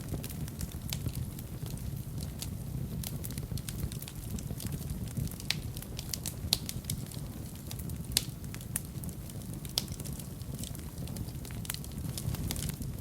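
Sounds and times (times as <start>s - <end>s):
fire crackling in fireplace: 0.0s - 13.0s.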